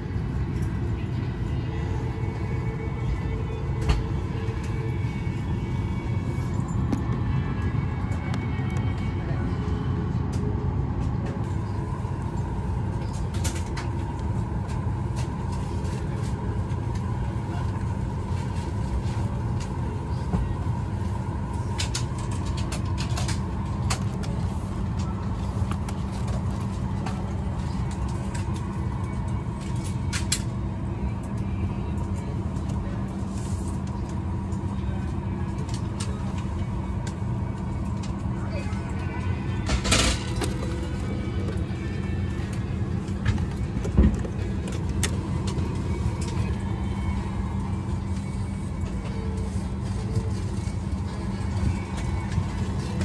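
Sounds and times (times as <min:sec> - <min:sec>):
aircraft cabin air-conditioning drone: 0:00.0 - 0:53.0.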